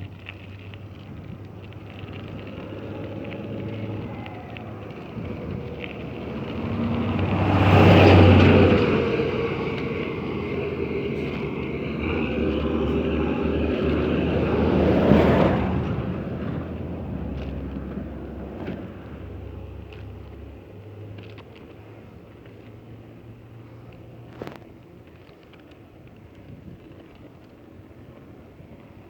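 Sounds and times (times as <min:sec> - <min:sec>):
vehicle passing by: 0:00.2 - 0:24.6.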